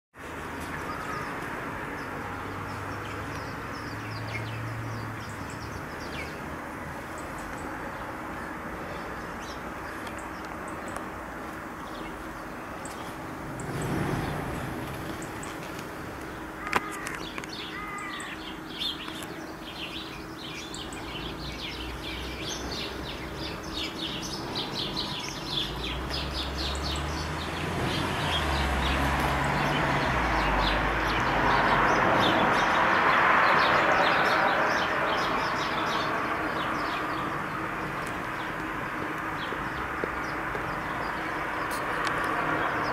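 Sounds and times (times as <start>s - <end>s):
broad rushing noise: 0.2s - 42.9s
small birds chirping: 0.2s - 42.9s.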